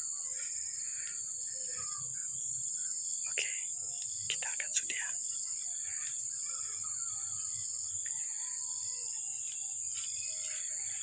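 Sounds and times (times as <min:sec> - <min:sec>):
faint insect chirps: 0:00.0 - 0:11.0
insects droning: 0:00.0 - 0:11.0.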